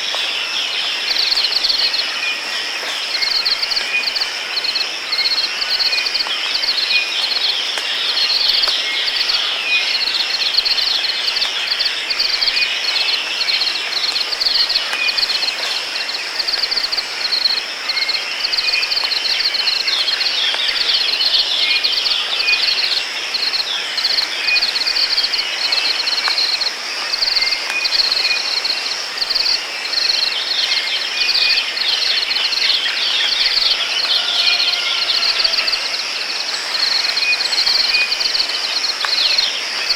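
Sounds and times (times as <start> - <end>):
insect chorus: 0.0 - 39.9
rain hiss: 0.0 - 39.9.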